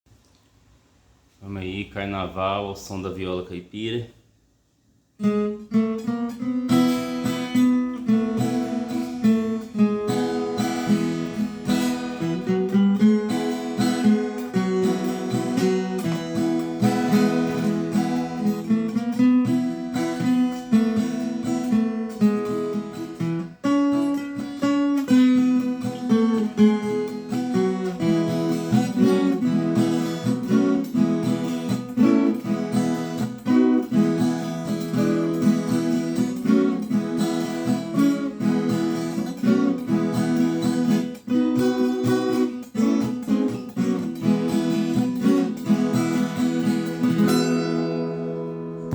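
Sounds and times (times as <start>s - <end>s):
folk guitar strummed and plucked: 5.2s - 48.9s.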